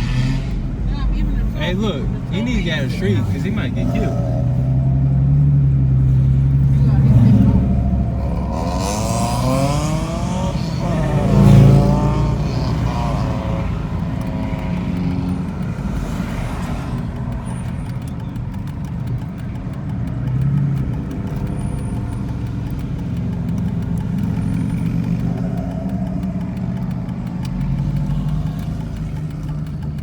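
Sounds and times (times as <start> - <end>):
car engines low rumble: 0.0 - 30.0.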